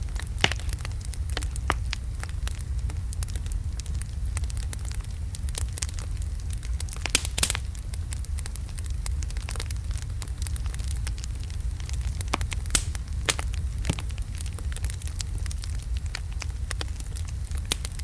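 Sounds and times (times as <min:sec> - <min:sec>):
fire crackles and pops: 0:00.0 - 0:18.0
fireplace logs burning: 0:00.0 - 0:18.0.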